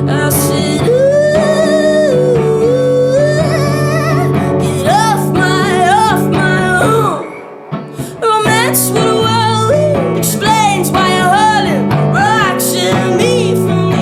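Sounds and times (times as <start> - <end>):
person singing long notes: 0.0 - 7.4, 8.0 - 14.0
guitar accompaniment: 0.0 - 14.0.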